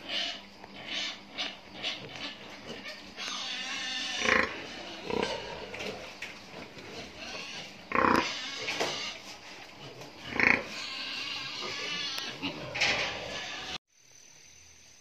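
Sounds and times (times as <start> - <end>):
pigs calling: 0.0 - 13.8.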